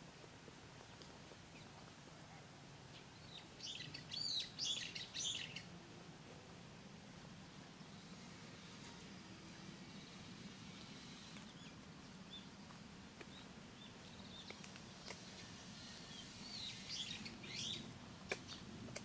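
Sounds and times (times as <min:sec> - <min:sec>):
low outdoor hum: 0:00.0 - 0:19.0
small birds chirping: 0:00.8 - 0:06.0, 0:07.4 - 0:19.0.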